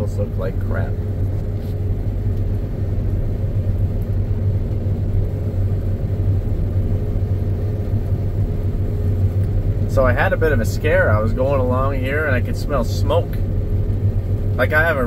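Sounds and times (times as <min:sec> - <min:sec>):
combine harvester engine drone: 0:00.0 - 0:15.0
faint steady hum: 0:00.0 - 0:15.0.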